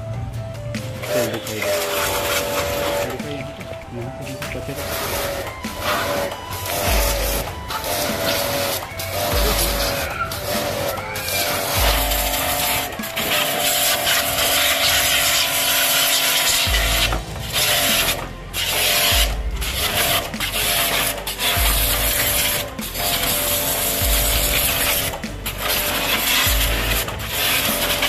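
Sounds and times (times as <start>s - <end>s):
high-pressure water spray hissing: 0.8s - 28.0s
pump humming: 4.5s - 28.0s.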